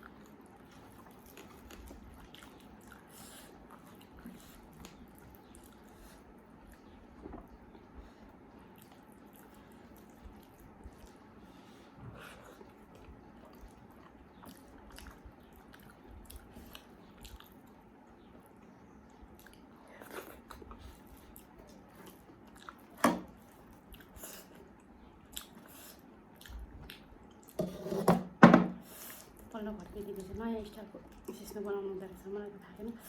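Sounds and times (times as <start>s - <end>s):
person chewing food: 0.0s - 27.6s.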